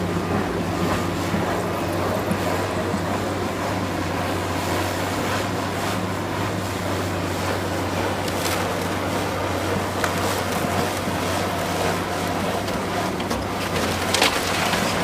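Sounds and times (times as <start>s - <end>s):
heavy machinery engine running: 0.0s - 15.0s
noisy rumble: 0.0s - 15.0s.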